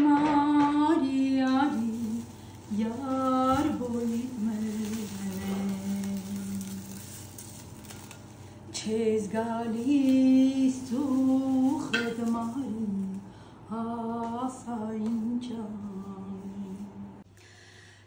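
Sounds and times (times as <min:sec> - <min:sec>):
woman singing with vibrato: 0:00.0 - 0:07.0, 0:08.7 - 0:17.2.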